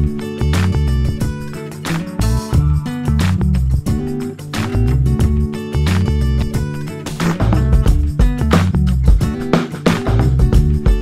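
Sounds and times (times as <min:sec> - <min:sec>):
guitar music with bass line: 0:00.0 - 0:11.0.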